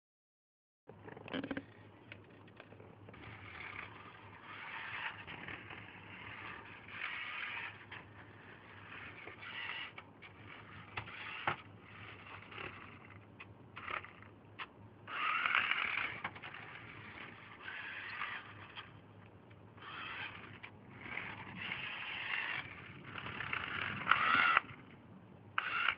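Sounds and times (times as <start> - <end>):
toy car motor whirring: 2.4 - 19.0, 19.7 - 25.9.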